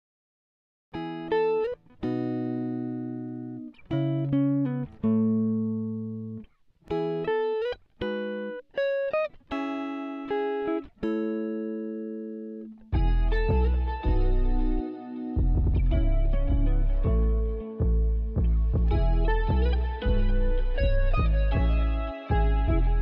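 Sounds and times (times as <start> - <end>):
slow plucked guitar music: 1.0 - 23.0.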